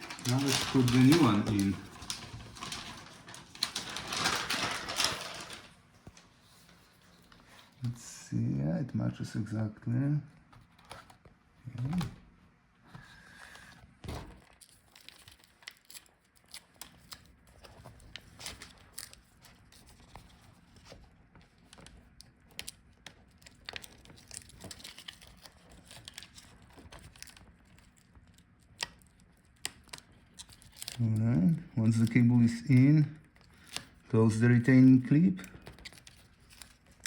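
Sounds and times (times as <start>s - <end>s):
crinkling and rustling: 0.0s - 7.9s, 12.9s - 37.0s.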